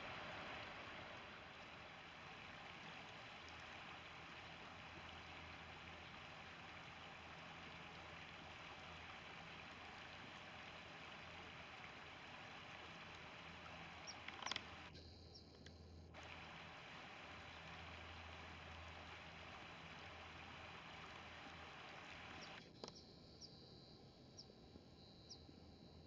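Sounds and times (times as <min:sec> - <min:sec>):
river flowing over gravel: 0:00.0 - 0:14.9, 0:16.2 - 0:22.6.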